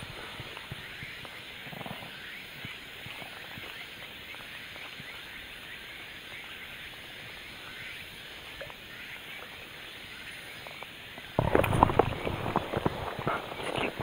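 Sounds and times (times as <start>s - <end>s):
faint chirps: 0.0s - 14.0s.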